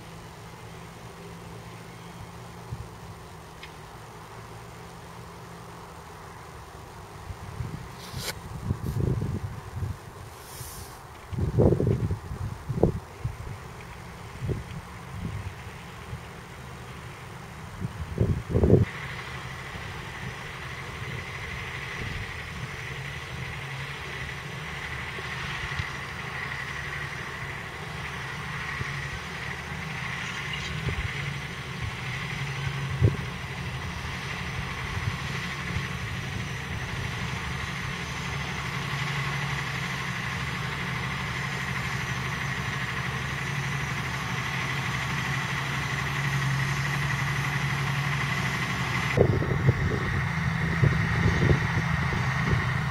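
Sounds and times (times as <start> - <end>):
diesel tractor engine under load: 0.0 - 52.9.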